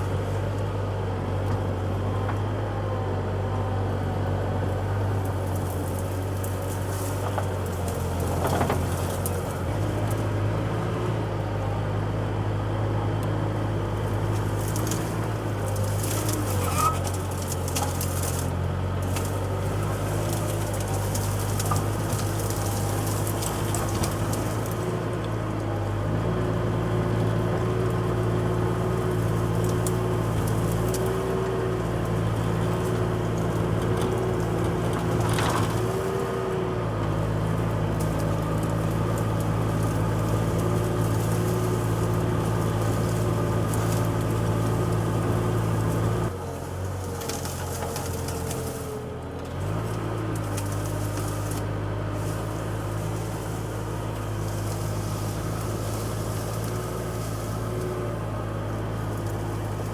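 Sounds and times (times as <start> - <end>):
engine running: 0.0 - 59.9
wood cracking and splintering: 5.0 - 11.0, 13.8 - 59.9.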